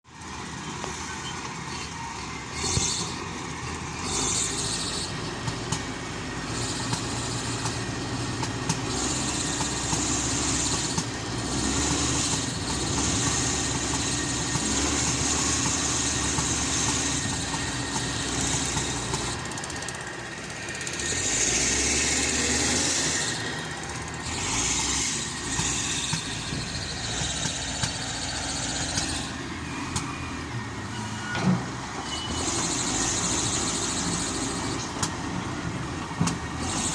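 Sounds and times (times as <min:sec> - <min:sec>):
heavy machine engine running: 0:00.1 - 0:36.9.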